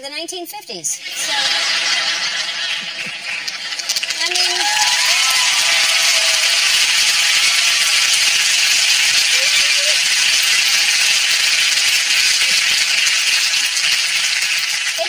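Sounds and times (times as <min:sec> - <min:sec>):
audience applauding: 0:01.0 - 0:15.0.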